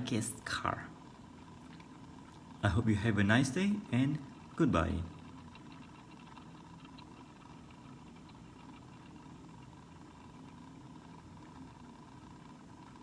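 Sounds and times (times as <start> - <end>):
turntable motor hum: 0.0 - 13.0.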